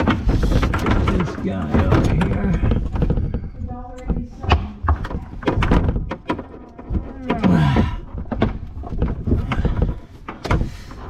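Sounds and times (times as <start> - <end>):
faucet parts clunking and rattling: 0.0 - 11.0.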